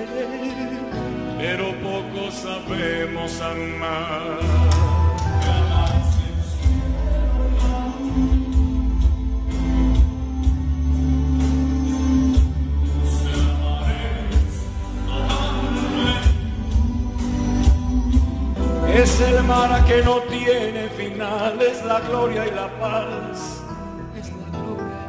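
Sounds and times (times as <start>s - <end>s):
man singing: 0.0s - 10.1s, 12.3s - 25.0s
sustained chords: 0.0s - 21.4s
bass line: 0.0s - 25.0s.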